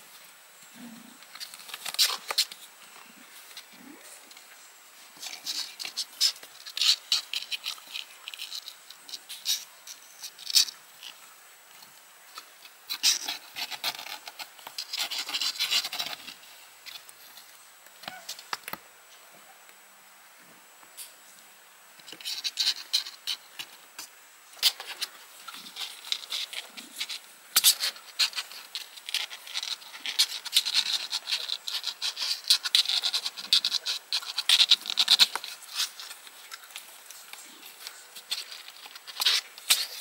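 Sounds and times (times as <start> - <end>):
claws scratching cardboard: 0.8 - 2.7, 5.1 - 11.2, 12.4 - 18.8, 22.0 - 40.0.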